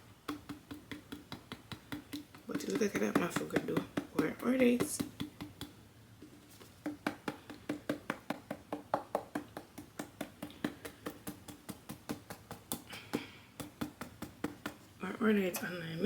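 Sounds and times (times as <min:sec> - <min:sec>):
rapid light tapping: 0:00.0 - 0:15.1.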